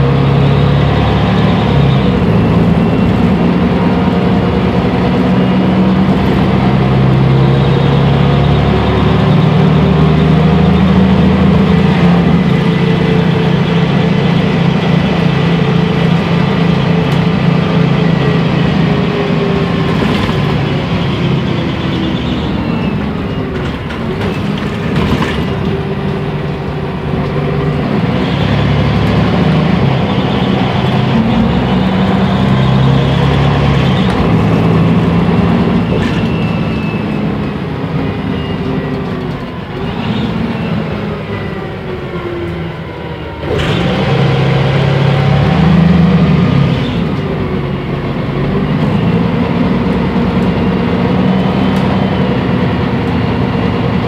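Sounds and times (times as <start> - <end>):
bus diesel engine while driving: 0.0 - 54.0.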